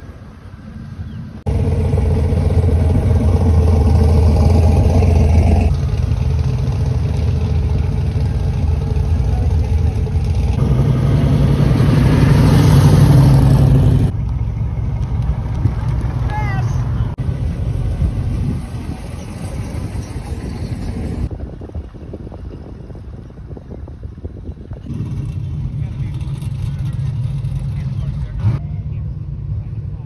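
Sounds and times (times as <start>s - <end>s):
muscle car engines passing: 0.0s - 30.0s.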